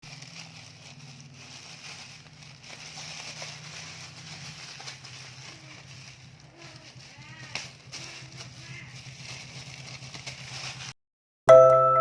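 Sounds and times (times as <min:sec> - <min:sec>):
rustling and crinkling: 0:00.0 - 0:11.0.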